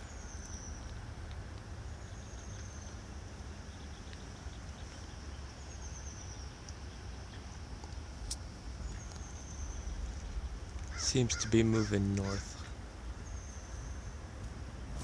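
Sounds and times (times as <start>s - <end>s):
steady low rumble: 0.0s - 10.9s, 11.5s - 15.0s.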